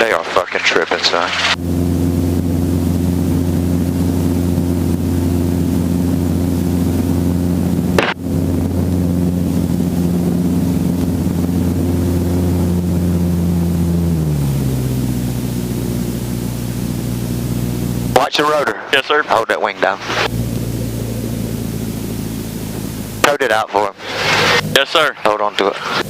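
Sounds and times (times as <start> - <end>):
helicopter engine and rotor running: 0.0 - 26.0.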